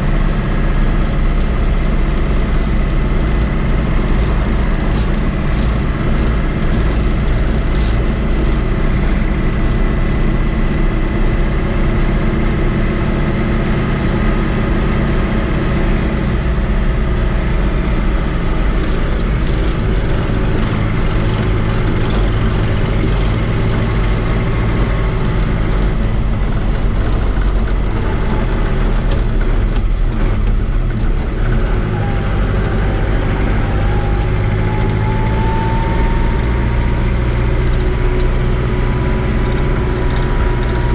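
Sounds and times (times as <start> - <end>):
tractor diesel engine running: 0.0 - 40.9
rising whine: 0.2 - 40.9.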